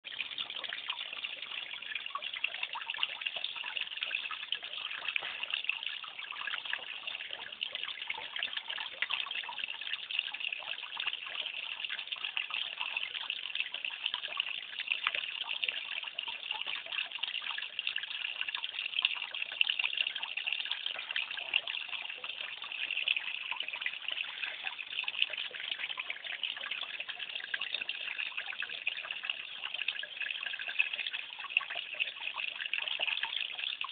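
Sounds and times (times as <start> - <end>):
water trickling in a pond: 0.0 - 33.9.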